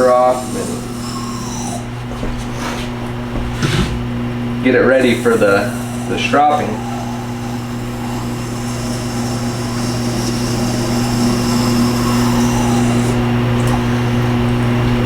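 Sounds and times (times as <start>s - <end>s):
sharpening machine motor hum: 0.0s - 15.0s.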